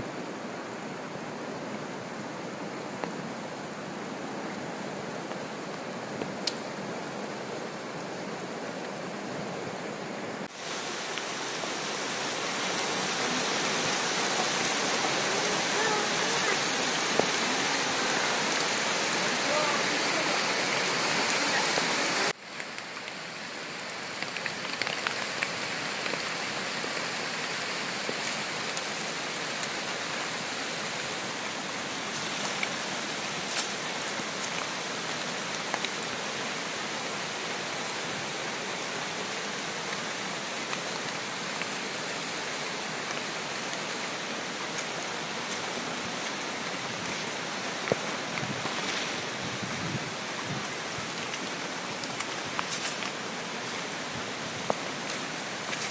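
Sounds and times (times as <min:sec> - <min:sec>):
heavy rain hissing: 0:00.0 - 0:55.9
rain drops hitting: 0:00.2 - 0:55.9.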